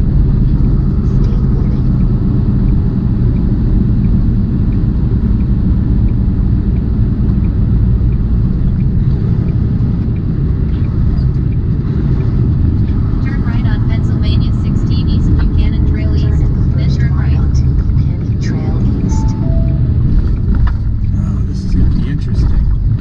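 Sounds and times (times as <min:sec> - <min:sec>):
diesel engine rumble: 0:00.0 - 0:23.0
road noise: 0:00.0 - 0:23.0.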